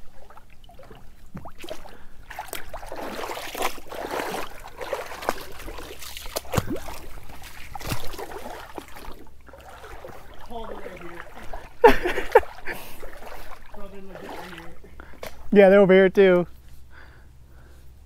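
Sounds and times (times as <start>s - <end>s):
creek water sloshing and splashing: 0.0s - 15.6s.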